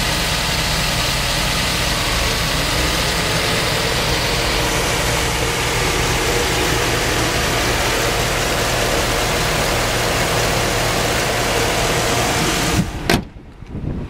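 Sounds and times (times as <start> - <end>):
truck engine idling: 0.0 - 13.5.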